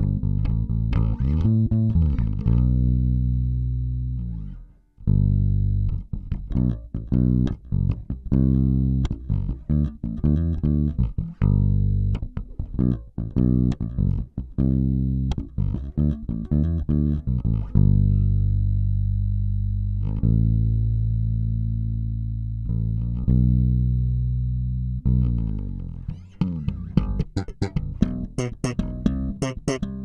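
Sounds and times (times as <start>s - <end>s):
electric bass plucked notes: 0.0s - 30.0s.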